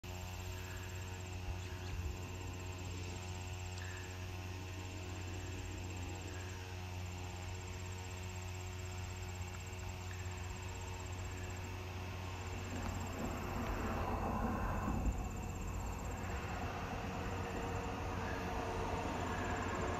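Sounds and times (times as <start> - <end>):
crickets chirping: 0.0 - 19.9
low hum: 0.0 - 19.9.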